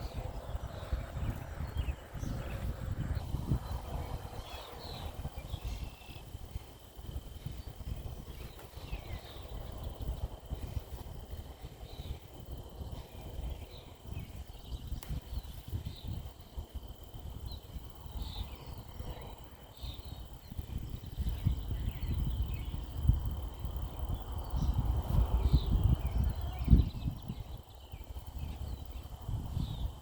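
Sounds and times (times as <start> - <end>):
insect drone: 0.0 - 30.0
low rumbling on microphone: 0.0 - 30.0.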